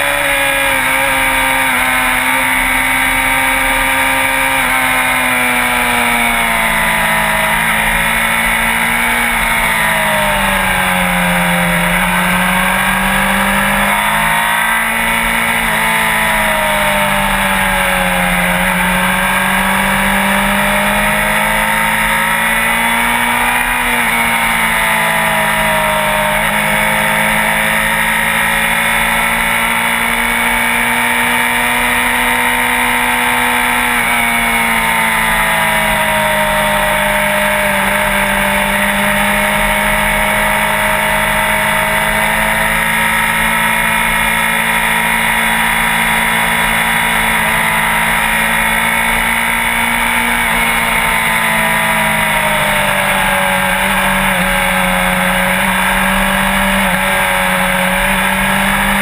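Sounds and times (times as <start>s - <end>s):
sport bike engine running: 0.0s - 59.0s.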